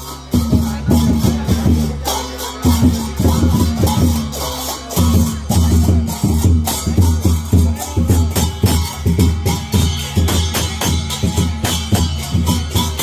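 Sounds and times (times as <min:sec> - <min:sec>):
music with drum beat and bass: 0:00.0 - 0:13.0.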